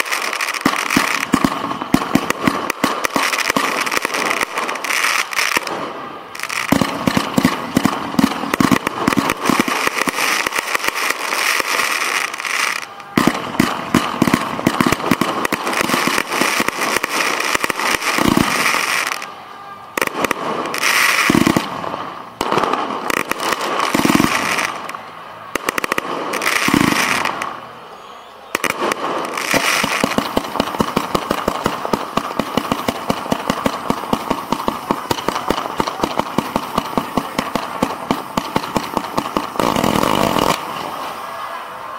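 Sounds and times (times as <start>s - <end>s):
fireworks shots and crackling: 0.0s - 41.9s.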